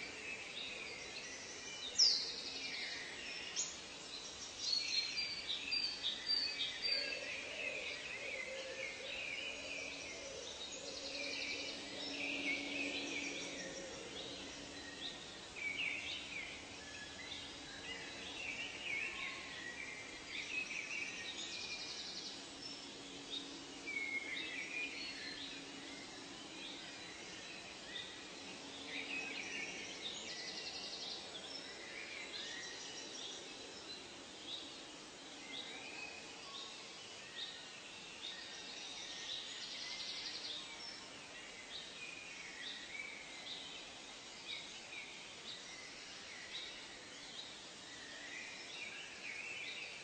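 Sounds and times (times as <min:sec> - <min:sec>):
chorus of birds singing: 0:00.0 - 0:50.0.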